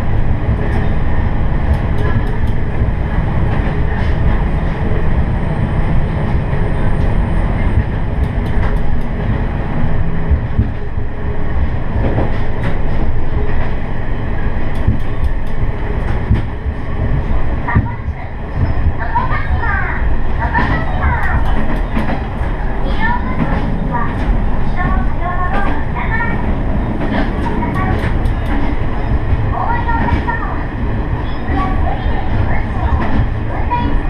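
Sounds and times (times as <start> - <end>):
rail joint clicks: 0.0 - 34.0
railcar engine and wheels drone: 0.0 - 34.0.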